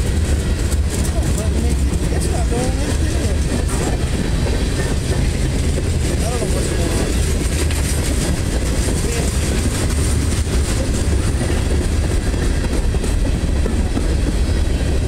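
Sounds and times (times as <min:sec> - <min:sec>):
freight train cars rolling past: 0:00.0 - 0:15.0
steel wheels rumbling on rails: 0:00.0 - 0:15.0.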